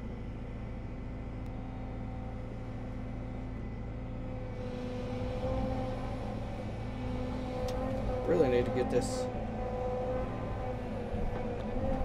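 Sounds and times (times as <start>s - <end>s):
excavator engine running: 0.0s - 12.0s
steady whine: 0.0s - 12.0s.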